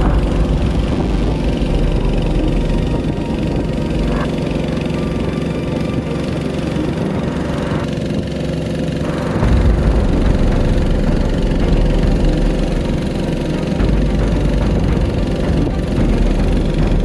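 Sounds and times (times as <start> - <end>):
boat engine running: 0.0 - 17.0
low engine rumble: 0.0 - 17.0.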